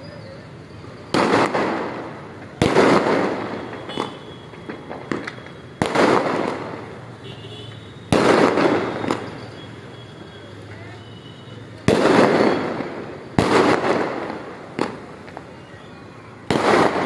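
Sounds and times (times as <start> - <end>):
fireworks bangs: 0.4 - 10.3, 11.2 - 17.0
fireworks pops and cracks: 1.0 - 9.8, 11.8 - 17.0.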